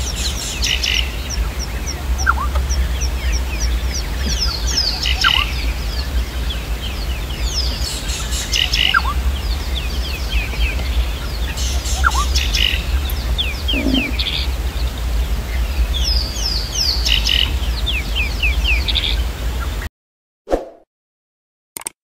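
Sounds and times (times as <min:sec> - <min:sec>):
steady low rumble: 0:00.0 - 0:19.6
birds chirping: 0:00.0 - 0:19.9.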